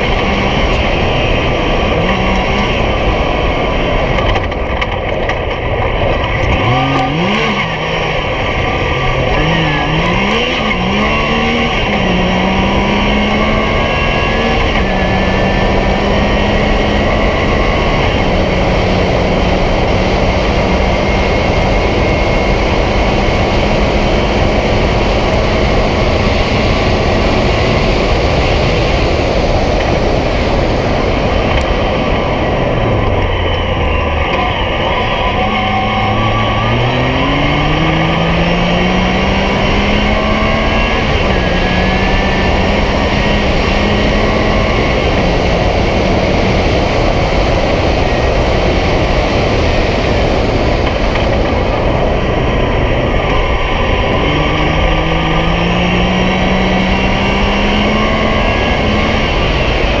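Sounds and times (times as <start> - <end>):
heavy wind: 0.0 - 60.0
tyre noise on dirt road: 0.0 - 60.0
vehicle engine running: 0.0 - 60.0.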